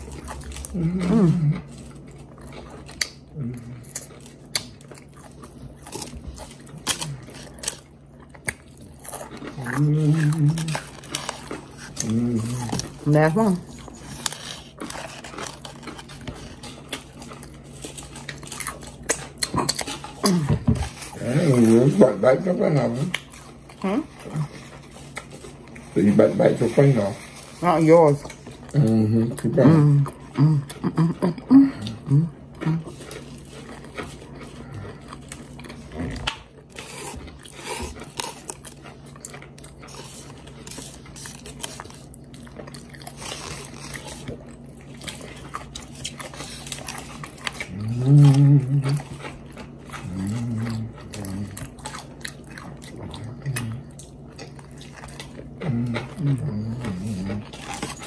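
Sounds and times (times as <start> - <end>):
faint low hum: 0.0 - 58.0
food crunching while chewed: 0.0 - 58.0.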